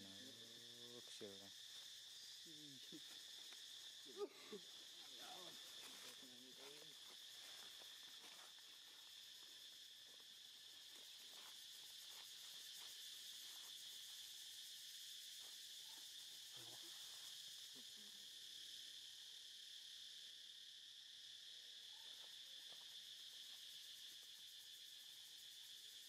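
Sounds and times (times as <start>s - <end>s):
insect chorus buzzing: 0.0s - 26.0s.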